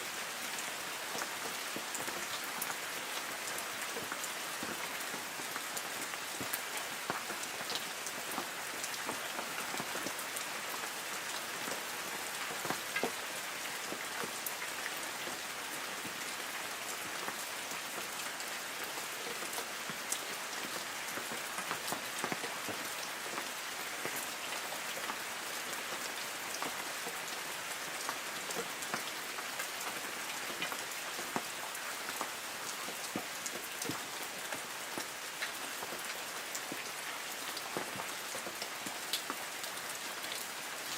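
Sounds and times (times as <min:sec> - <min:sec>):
light rain on leaves: 0:00.0 - 0:40.9.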